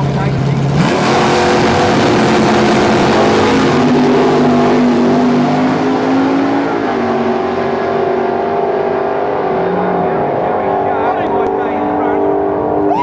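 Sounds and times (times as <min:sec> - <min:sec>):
loud car engine revving: 0:00.0 - 0:13.0.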